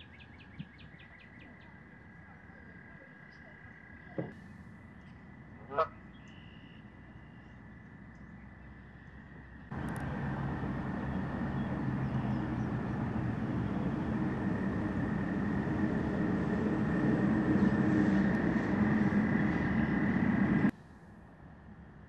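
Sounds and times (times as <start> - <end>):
engine humming: 1.4 - 20.8.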